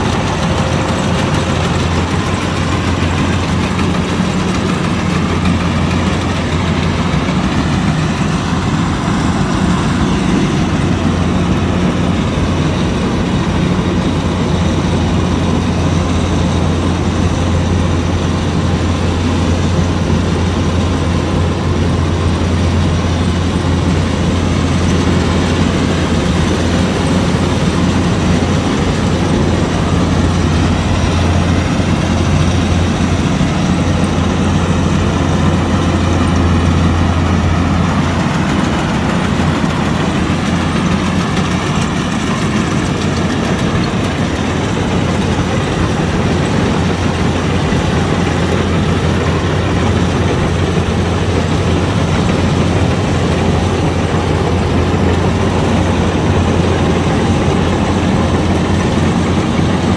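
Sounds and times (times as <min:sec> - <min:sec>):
cutting and threshing machinery: 0:00.0 - 0:59.9
diesel engine humming: 0:00.0 - 0:59.9.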